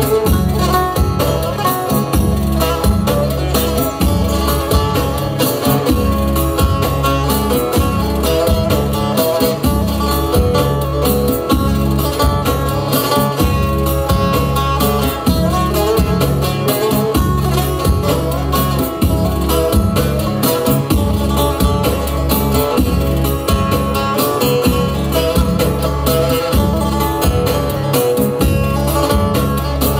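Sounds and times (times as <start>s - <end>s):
bass: 0.0s - 29.9s
drum beat: 0.0s - 29.9s
plucked strings: 0.0s - 29.9s.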